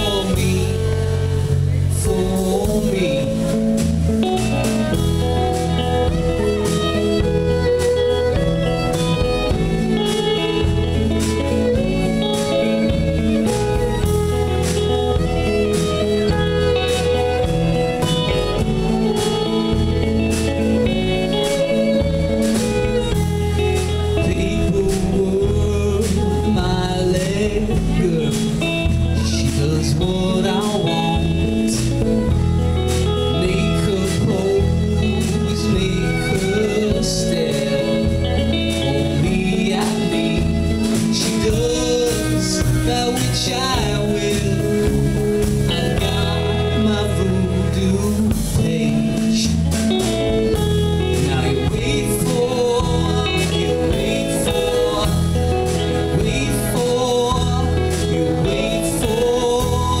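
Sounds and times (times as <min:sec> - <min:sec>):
drum kit: 0:00.0 - 1:00.0
electric guitar: 0:00.0 - 1:00.0
fiddle: 0:00.0 - 1:00.0
man singing: 0:00.0 - 1:00.0
upright bass: 0:00.0 - 1:00.0.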